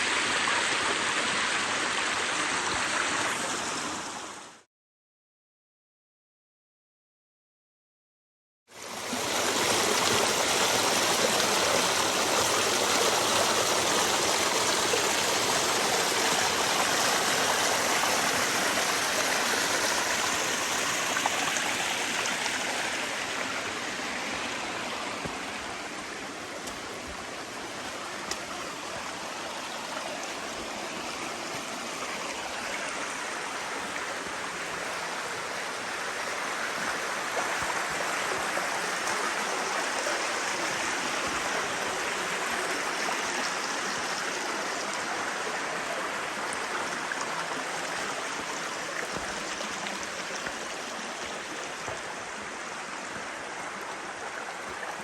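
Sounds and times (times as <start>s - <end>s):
flowing water and waterfall: 0.0s - 4.7s, 8.7s - 55.0s.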